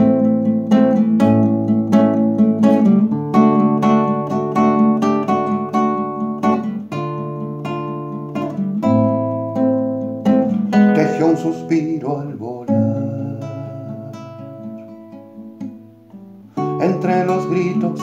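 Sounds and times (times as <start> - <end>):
classical guitar chords: 0.0 - 18.0.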